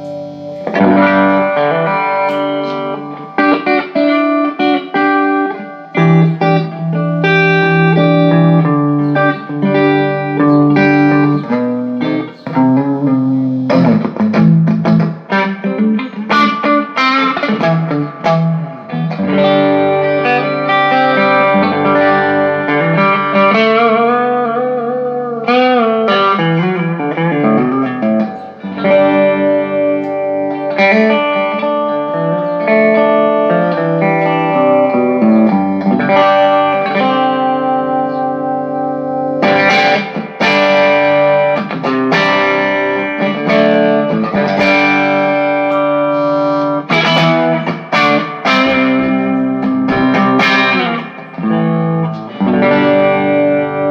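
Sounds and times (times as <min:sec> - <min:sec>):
overdriven electric guitar: 0:00.0 - 0:53.9.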